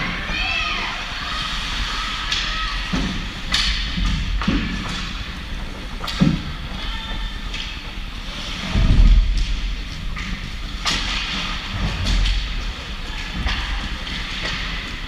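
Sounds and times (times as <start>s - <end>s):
low rumble: 0.9s - 15.0s.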